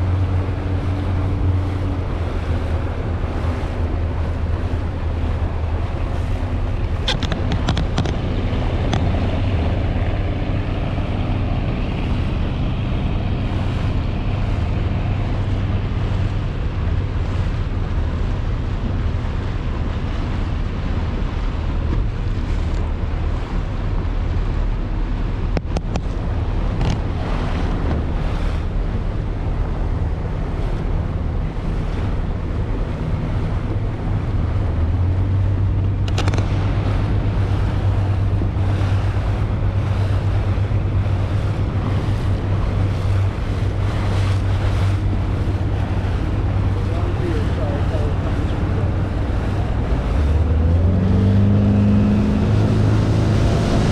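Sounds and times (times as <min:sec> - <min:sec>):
engines droning: 0:00.0 - 0:53.9
water noise: 0:00.0 - 0:53.9
wind buffeting microphone: 0:00.0 - 0:53.9.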